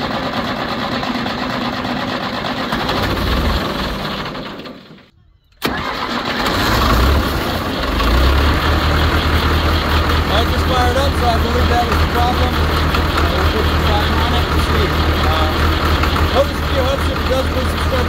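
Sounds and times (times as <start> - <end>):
diesel engine cranking on starter: 0.0 - 18.0
diesel engine running: 0.0 - 18.0.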